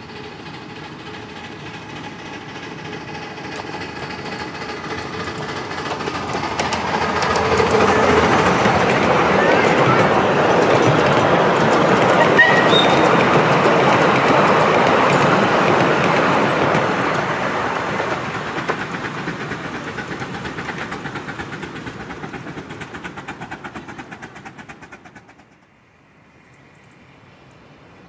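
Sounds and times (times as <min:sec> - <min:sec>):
wheels clicking on rails: 0:00.0 - 0:25.8
miniature steam train running: 0:00.0 - 0:26.2.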